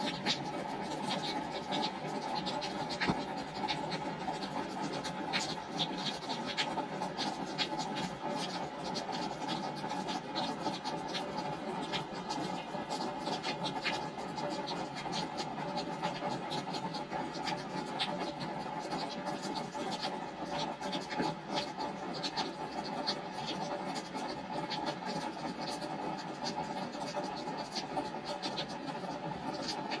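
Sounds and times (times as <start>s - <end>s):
raindrops ticking on boards: 0.0s - 30.0s.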